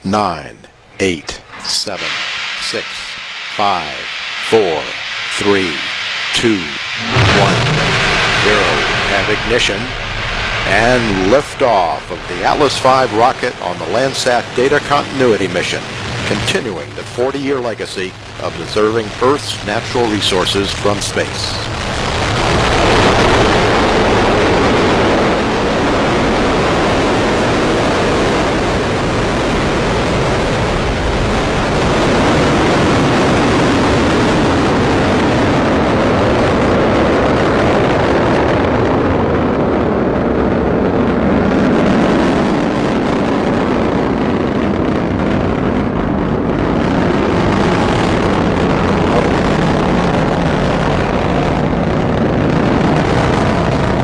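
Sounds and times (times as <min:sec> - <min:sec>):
rocket engine roaring: 0:00.0 - 0:54.0.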